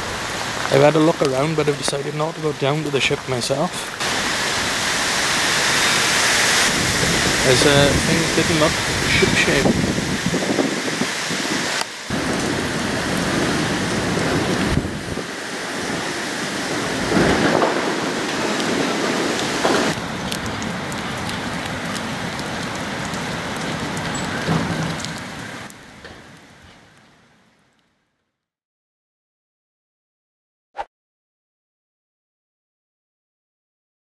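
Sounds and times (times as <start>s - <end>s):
rain on a metal roof: 0.0s - 28.2s.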